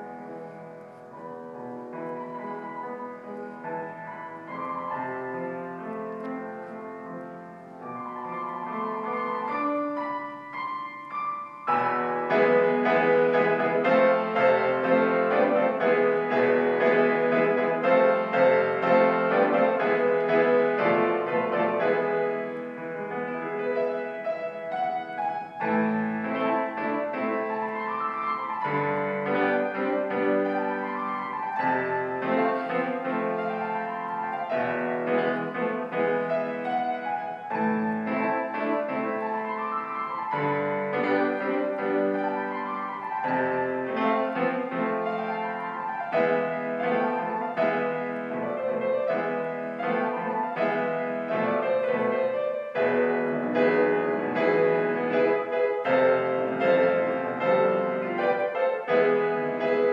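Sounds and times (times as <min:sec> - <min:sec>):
classical solo piano: 0:00.0 - 0:59.9.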